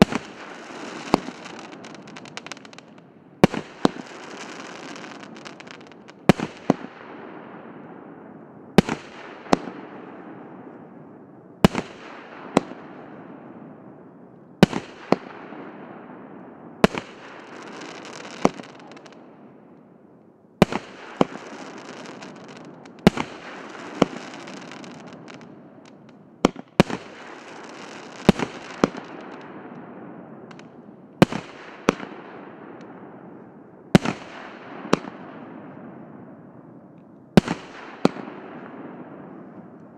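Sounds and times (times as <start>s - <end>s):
firework bangs: 0.0s - 11.0s, 11.6s - 19.8s, 20.6s - 36.6s, 37.3s - 39.9s.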